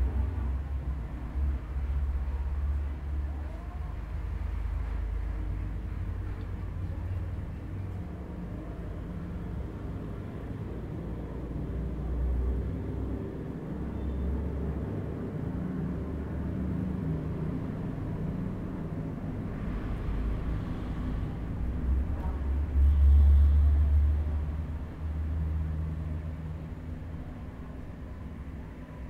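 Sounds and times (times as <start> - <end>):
low continuous rumble: 0.0 - 29.0.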